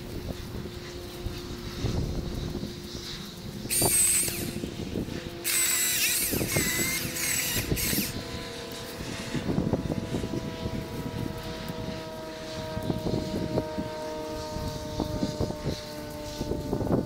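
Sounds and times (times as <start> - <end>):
battery chainsaw whine: 0.0 - 17.0.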